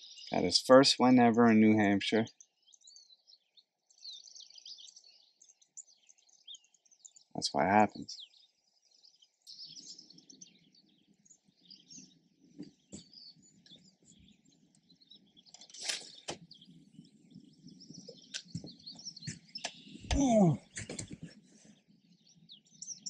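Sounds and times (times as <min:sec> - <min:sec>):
faint songbirds chirping: 0:00.0 - 0:23.0.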